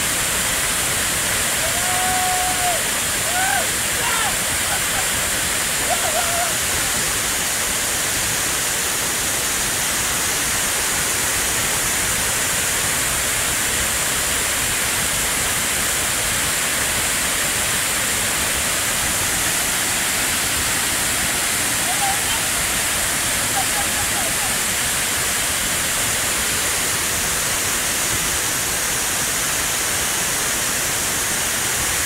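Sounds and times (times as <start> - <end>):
waterfall pouring onto rocks: 0.0 - 32.0.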